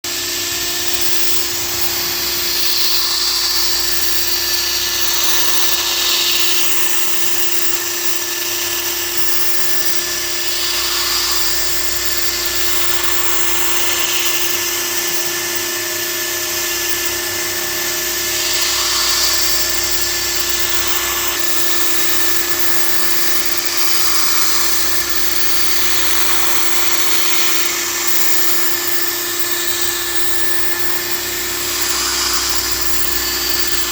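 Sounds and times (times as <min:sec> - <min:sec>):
cutter cutting metal: 0:00.0 - 0:33.9
milling machine whine: 0:00.0 - 0:33.9.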